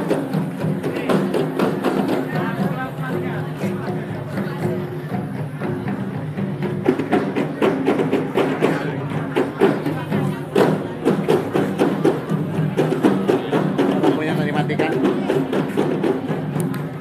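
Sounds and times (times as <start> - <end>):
quick drum strokes: 0.0 - 17.0.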